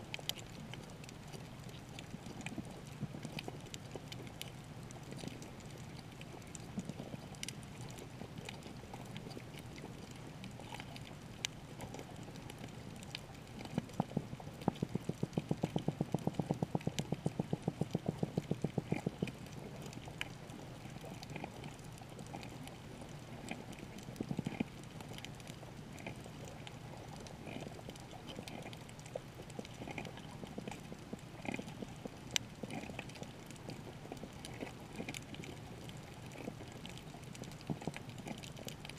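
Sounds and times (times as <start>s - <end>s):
sharp clicks and crackles: 0.0s - 38.9s
underwater low wash: 0.0s - 38.9s.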